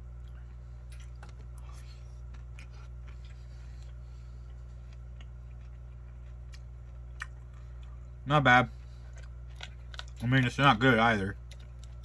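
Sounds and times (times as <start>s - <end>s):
person chewing crunchy cereal: 0.0s - 12.0s
steady low hum: 0.0s - 12.0s.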